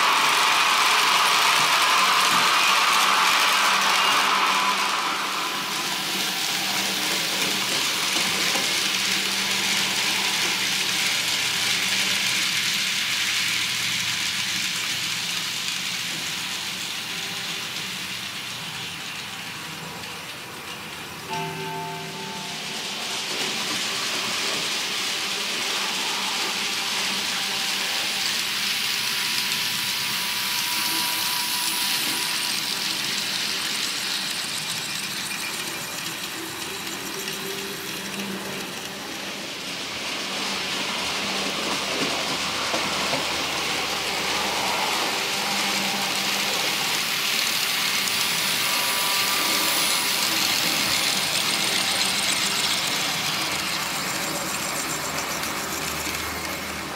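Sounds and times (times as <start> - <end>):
model train wheels rattling on rails: 0.0 - 56.9.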